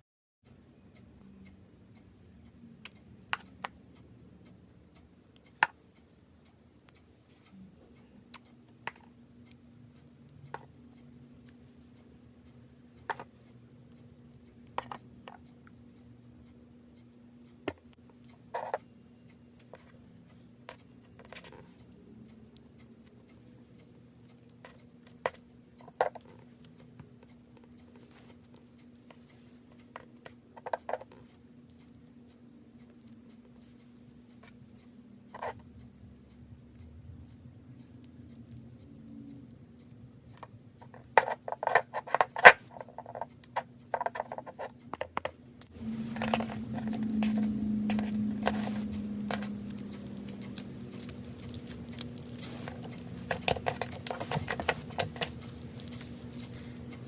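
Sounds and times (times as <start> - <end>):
faint steady hum: 0.4 - 57.0.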